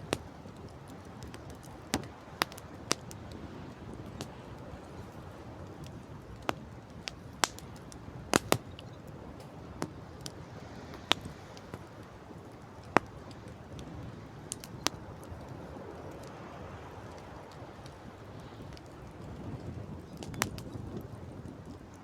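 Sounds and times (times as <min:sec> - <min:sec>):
sea waves: 0:00.0 - 0:19.5
campfire crackling and popping: 0:00.0 - 0:22.0
wind: 0:00.0 - 0:22.0.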